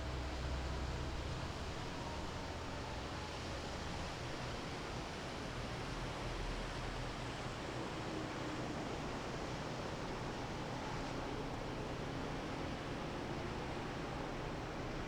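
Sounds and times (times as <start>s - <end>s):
water: 0.0s - 15.0s
wind: 0.0s - 15.0s.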